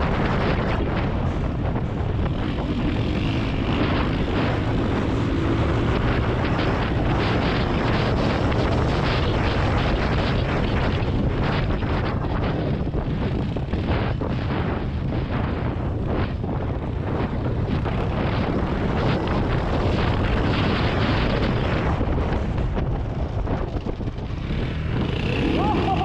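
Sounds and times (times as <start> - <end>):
dirt bike engine running: 0.0 - 26.0
wind buffeting microphone: 0.0 - 26.0.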